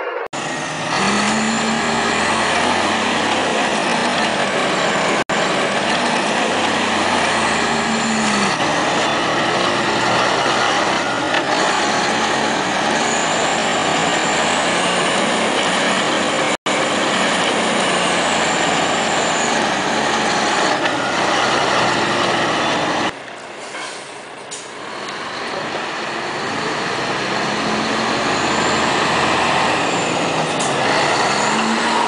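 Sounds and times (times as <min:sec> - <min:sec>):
truck diesel engine revving: 0:00.0 - 0:23.6, 0:24.2 - 0:32.0.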